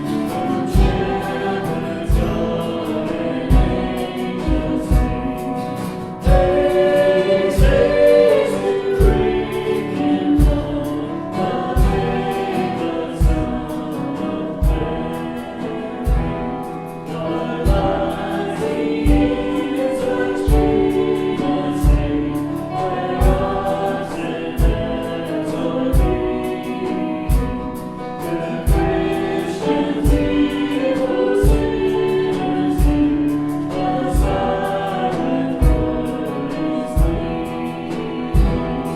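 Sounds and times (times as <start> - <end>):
band playing: 0.0 - 38.9
people singing worship song: 0.0 - 38.9
steady drum beat: 0.0 - 38.9.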